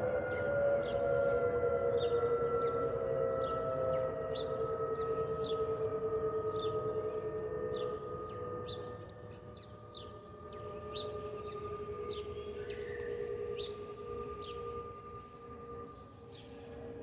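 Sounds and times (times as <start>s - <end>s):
birds chirping: 0.3s - 17.0s.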